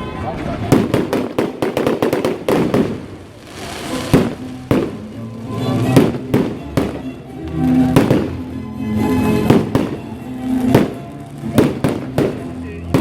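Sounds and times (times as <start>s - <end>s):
fireworks bangs: 0.0s - 13.0s
music playing: 0.0s - 13.0s.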